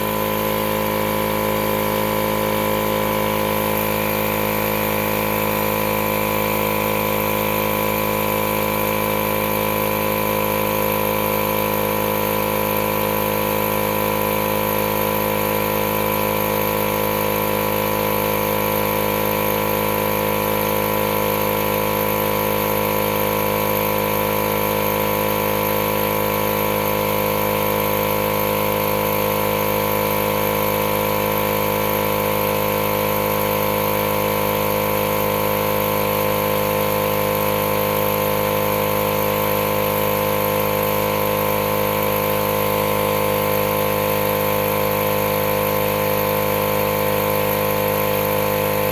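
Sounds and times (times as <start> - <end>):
portable air compressor running: 0.0 - 48.9.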